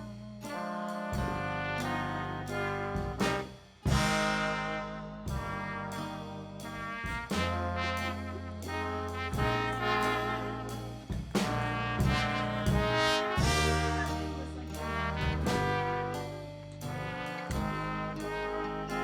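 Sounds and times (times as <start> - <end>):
brass background music: 0.0 - 19.0.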